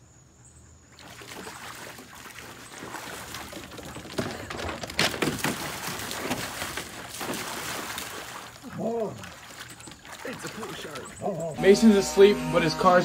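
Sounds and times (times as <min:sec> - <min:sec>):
dog splashing in pool: 0:00.9 - 0:12.4.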